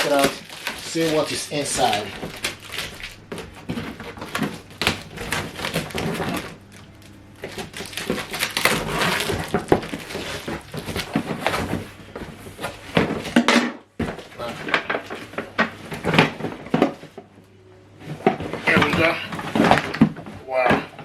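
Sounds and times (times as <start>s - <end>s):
packaging rustling and crinkling: 0.0s - 21.0s.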